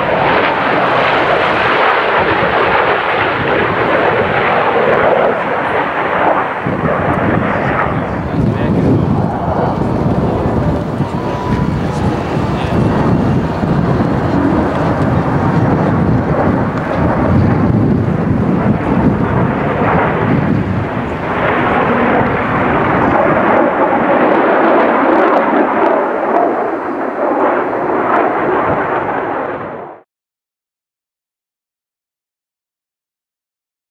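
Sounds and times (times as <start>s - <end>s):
aircraft engine running rough: 0.0s - 30.0s.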